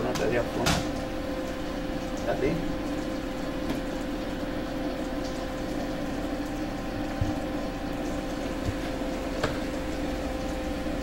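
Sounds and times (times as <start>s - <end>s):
steady hum with constant tones: 0.0s - 11.0s.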